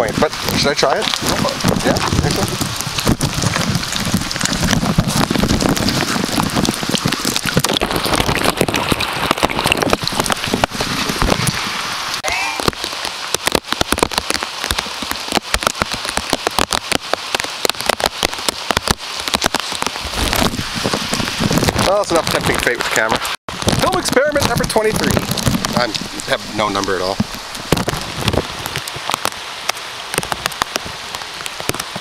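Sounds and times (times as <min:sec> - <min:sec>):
rain tapping on a bag: 0:00.0 - 0:32.0.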